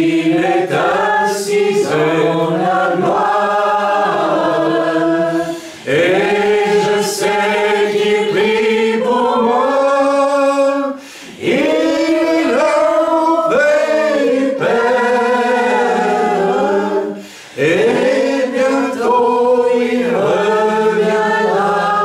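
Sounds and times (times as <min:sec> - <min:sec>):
voices singing worship song: 0:00.0 - 0:22.0.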